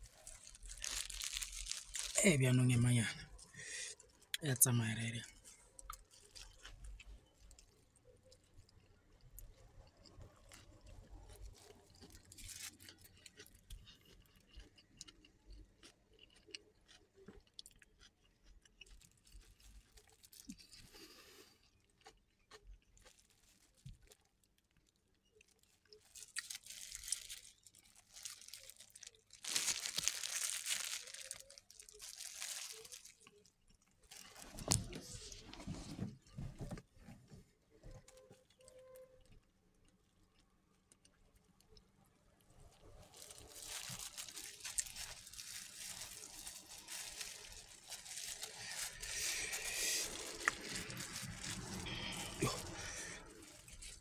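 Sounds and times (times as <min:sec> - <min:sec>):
chewing and crunching sandwich: 0:00.0 - 0:54.0.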